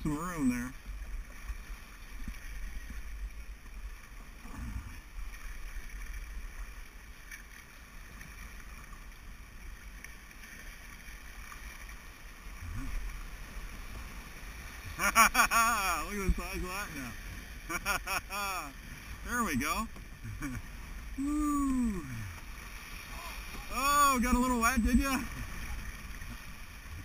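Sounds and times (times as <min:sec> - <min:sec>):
rushing river water: 0:00.0 - 0:27.0.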